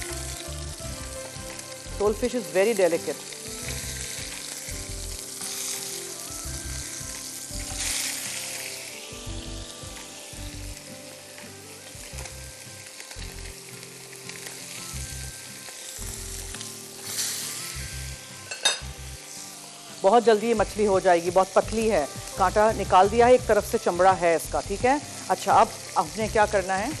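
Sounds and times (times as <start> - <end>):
fish sizzling in a frying pan: 0.0 - 27.0.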